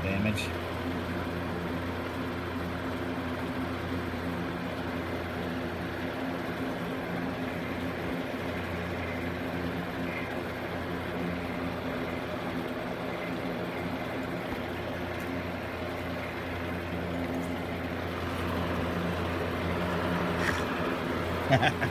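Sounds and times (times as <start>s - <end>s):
low machine hum: 0.0s - 21.9s.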